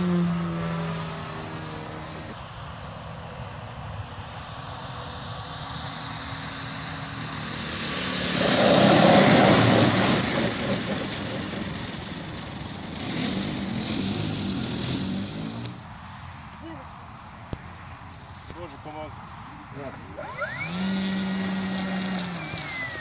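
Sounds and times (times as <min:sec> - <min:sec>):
model airplane engine: 0:00.0 - 0:15.8, 0:19.8 - 0:23.0.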